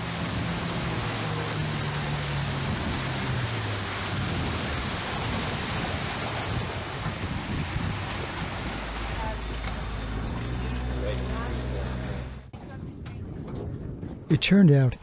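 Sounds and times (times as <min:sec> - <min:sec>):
boat motor humming: 0:00.0 - 0:12.5.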